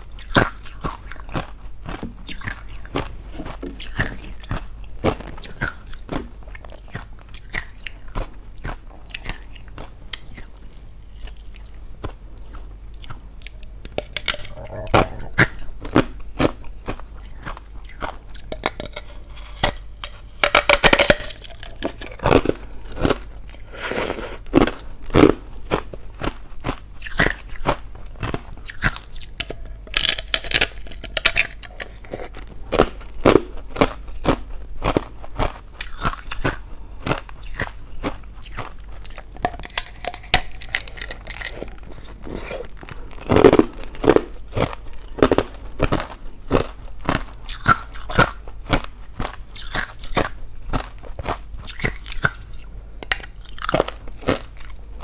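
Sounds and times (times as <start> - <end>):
teeth crunching ice: 0.2 - 11.8, 12.4 - 23.7, 24.5 - 54.8.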